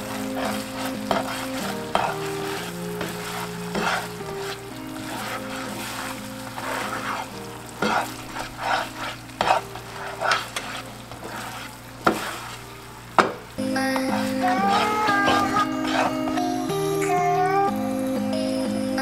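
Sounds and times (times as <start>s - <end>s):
background music: 0.0s - 10.4s, 12.8s - 19.0s
spatula tapping pan: 0.0s - 16.8s
spatula scraping pan: 0.0s - 16.9s
liquid bubbling and sizzling in pan: 0.0s - 17.7s.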